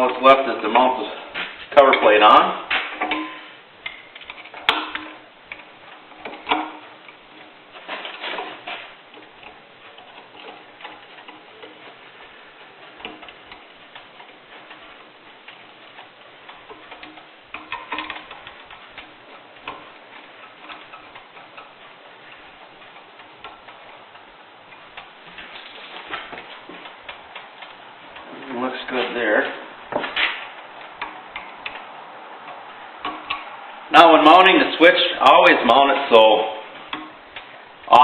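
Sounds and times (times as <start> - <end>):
small metallic clicks and ticks: 1.8 - 38.0.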